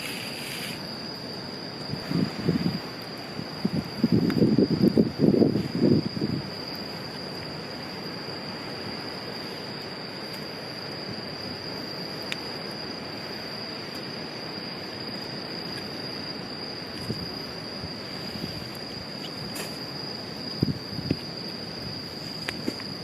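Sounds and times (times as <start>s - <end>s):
even hiss: 0.0s - 23.0s
high-pitched insect chorus: 0.0s - 23.0s.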